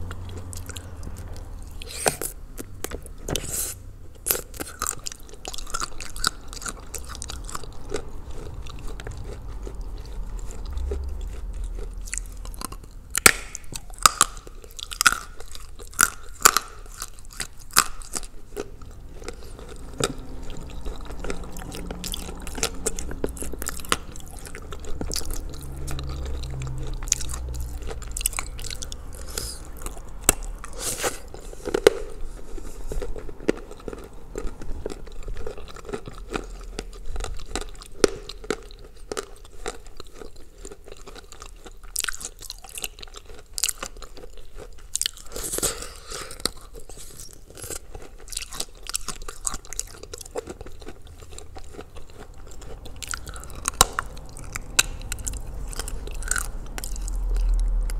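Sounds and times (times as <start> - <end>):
chalk crunching while chewed: 0.0 - 57.9.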